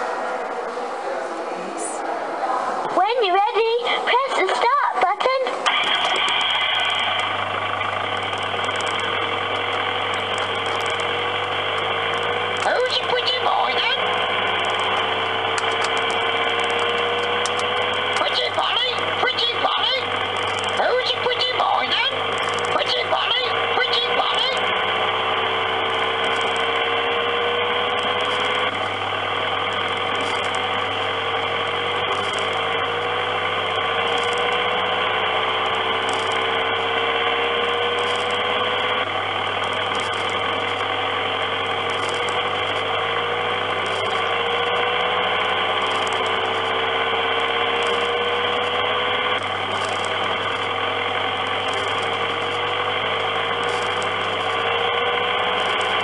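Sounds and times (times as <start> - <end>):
kiddie ride mechanical hum: 0.0 - 56.0
rising and falling whine: 0.0 - 56.0.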